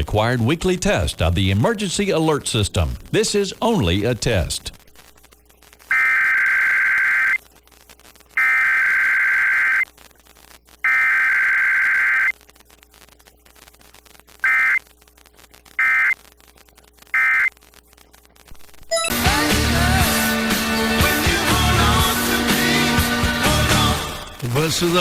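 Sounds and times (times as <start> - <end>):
warbling data bursts: 0.2 - 25.0
short data bursts: 1.6 - 25.0.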